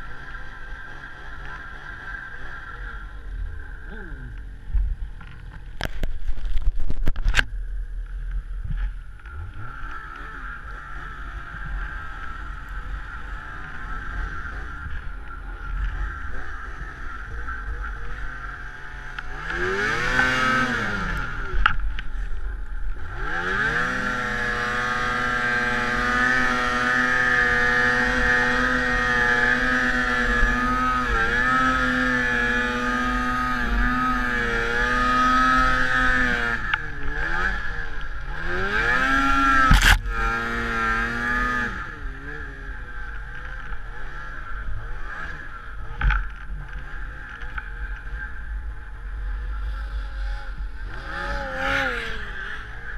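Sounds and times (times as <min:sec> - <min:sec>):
snowmobile engine revving: 0:09.2 - 0:52.9.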